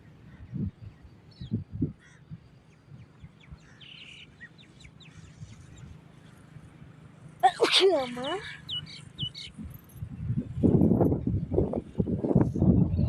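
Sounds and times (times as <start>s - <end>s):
birds chirping: 0.0s - 11.1s.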